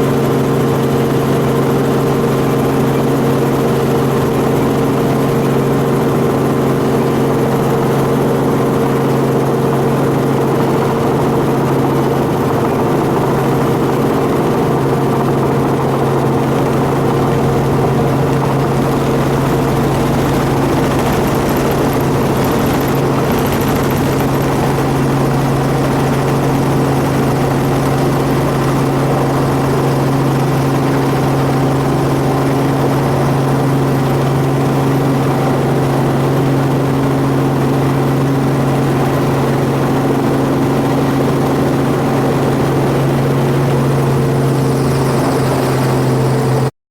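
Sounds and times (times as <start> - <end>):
helicopter engine and rotor: 0.0 - 46.7.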